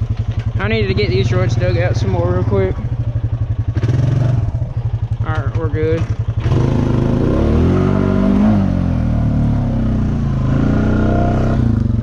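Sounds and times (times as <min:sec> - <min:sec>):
atv engine accelerating: 0:00.0 - 0:12.0.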